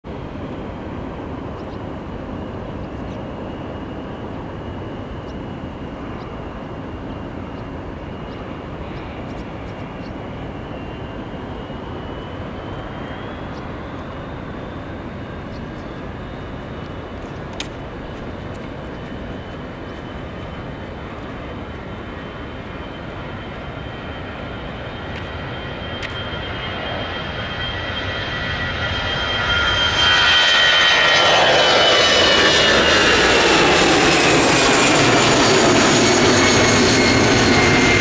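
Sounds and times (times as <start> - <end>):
faint high whine: 0.1 - 38.0
jet engines rushing: 0.1 - 38.0.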